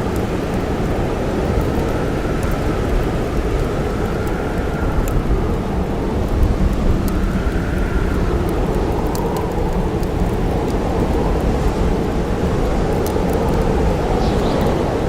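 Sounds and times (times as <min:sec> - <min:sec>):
blizzard wind howling: 0:00.0 - 0:15.0
campfire crackling and popping: 0:00.0 - 0:15.0.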